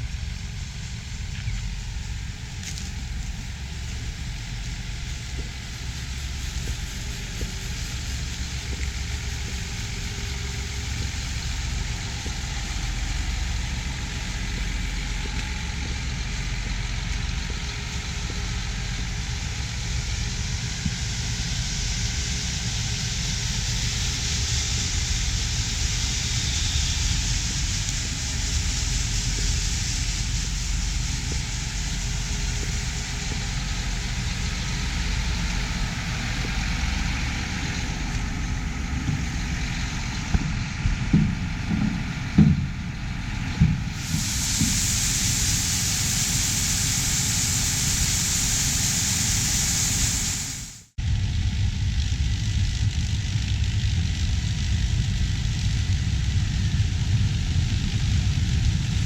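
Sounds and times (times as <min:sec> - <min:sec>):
heavy farm machinery engine rumble: 0:00.0 - 0:59.0.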